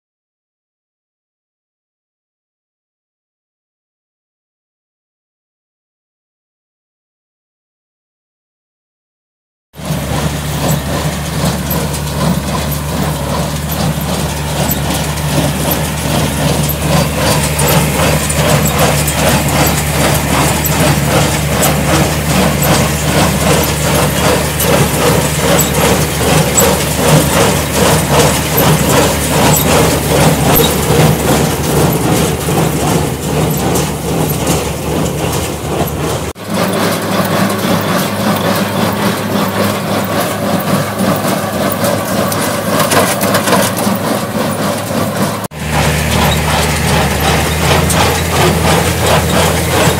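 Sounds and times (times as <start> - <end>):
baler mechanical clatter: 9.8 - 49.9
tractor diesel engine running: 9.8 - 49.9.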